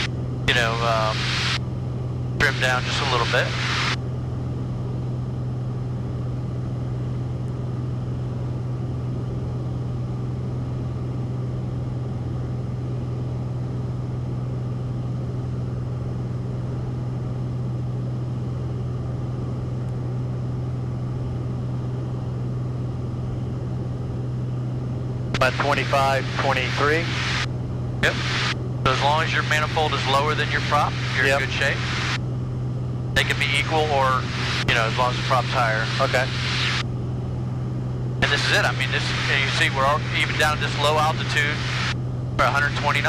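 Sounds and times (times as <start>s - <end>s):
airplane cabin engine drone: 0.0s - 43.0s.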